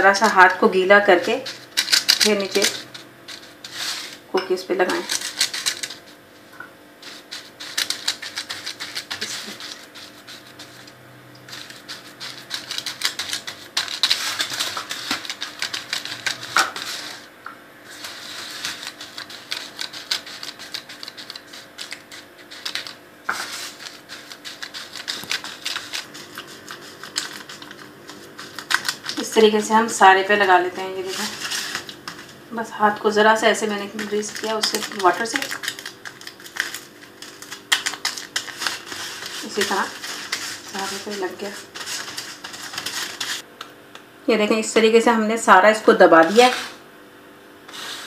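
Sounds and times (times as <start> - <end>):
cookie crumbs and foil crackling: 0.0 - 17.3, 17.9 - 43.5, 46.2 - 46.8.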